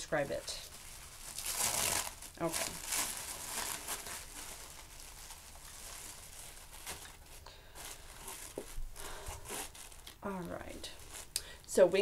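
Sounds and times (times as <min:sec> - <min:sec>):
paper packaging rustling: 0:00.2 - 0:11.4.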